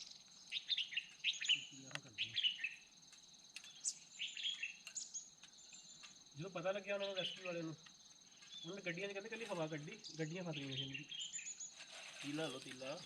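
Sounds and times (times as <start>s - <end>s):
crickets trilling: 0.0s - 13.0s
small birds chirping: 0.0s - 13.0s.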